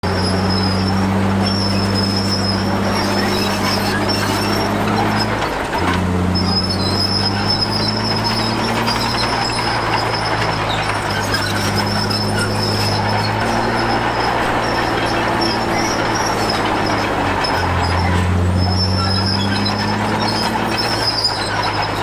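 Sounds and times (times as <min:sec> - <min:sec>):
heavy diesel machinery running: 0:00.0 - 0:22.0
thin high squeal: 0:00.1 - 0:05.4, 0:06.3 - 0:22.0.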